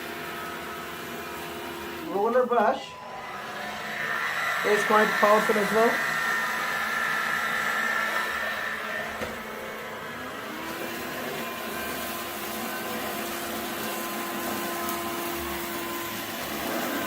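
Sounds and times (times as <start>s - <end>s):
stick vacuum motor whine: 0.0s - 17.0s.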